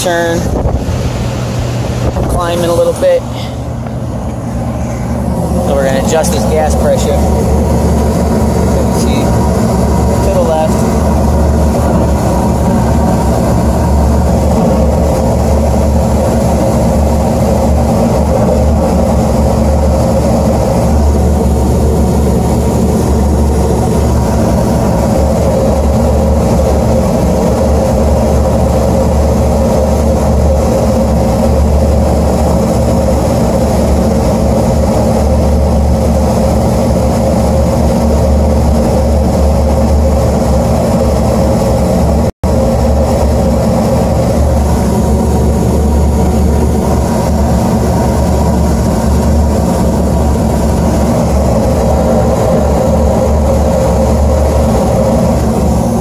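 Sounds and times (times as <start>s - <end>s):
gas furnace humming: 0.0s - 56.0s.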